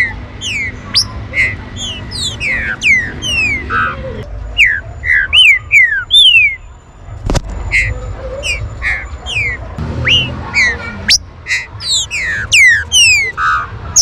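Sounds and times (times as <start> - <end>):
bird singing whistled notes: 0.0 - 4.0, 4.6 - 6.7, 7.7 - 14.0.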